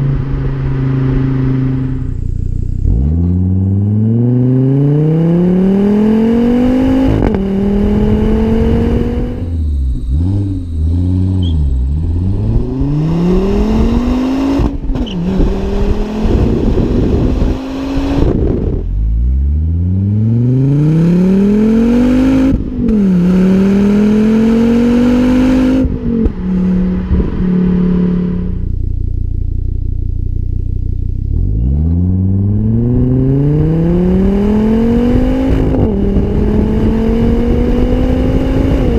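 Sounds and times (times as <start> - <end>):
car engine accelerating hard: 0.0 - 29.6, 31.0 - 38.9.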